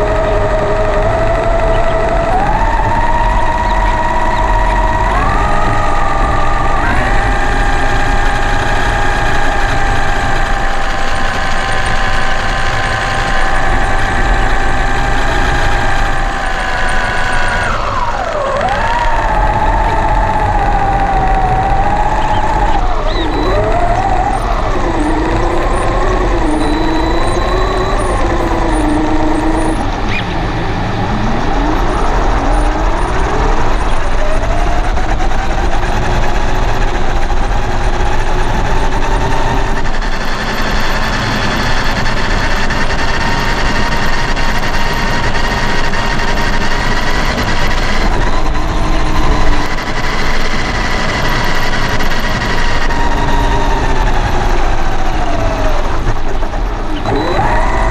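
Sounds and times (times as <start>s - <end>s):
rc truck electric motor whining: 0.0s - 57.9s
tyres rolling on trail: 0.0s - 57.9s.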